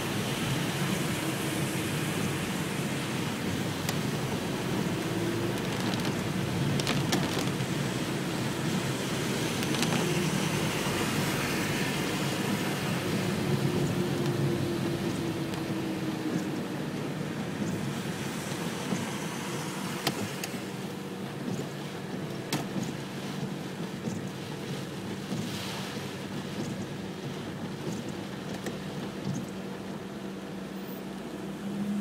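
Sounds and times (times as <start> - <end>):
rain and wet road noise: 0.0 - 32.0.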